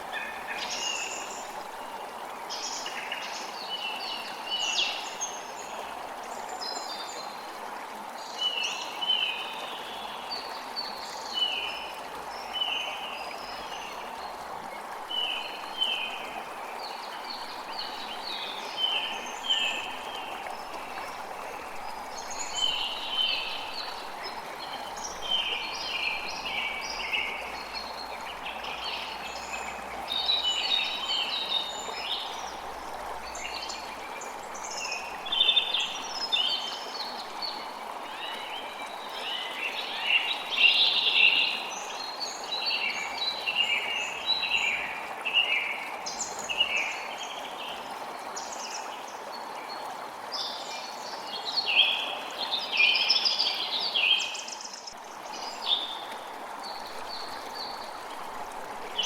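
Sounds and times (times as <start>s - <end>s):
creek water running: 0.0s - 59.0s.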